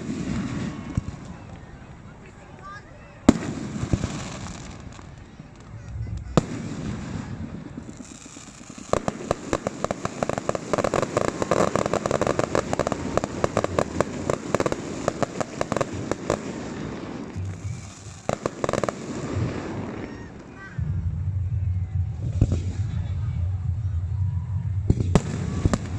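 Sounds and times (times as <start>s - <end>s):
fireworks crackling pops: 0.0s - 20.8s, 24.9s - 25.9s
firework bang: 3.3s - 23.8s, 24.6s - 25.9s.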